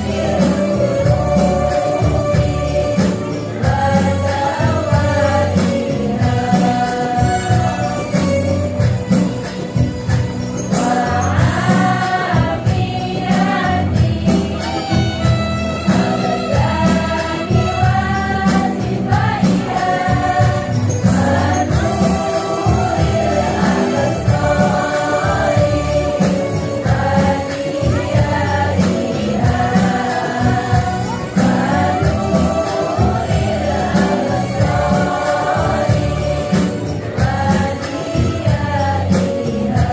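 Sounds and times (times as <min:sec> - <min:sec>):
instrumental accompaniment: 0:00.0 - 0:39.9
light percussion: 0:00.0 - 0:39.9
women's choir singing: 0:00.0 - 0:39.9.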